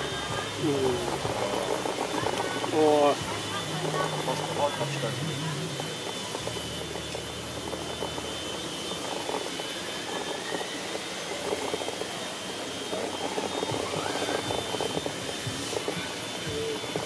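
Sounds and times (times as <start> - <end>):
small electric motor whining: 0.0 - 17.0.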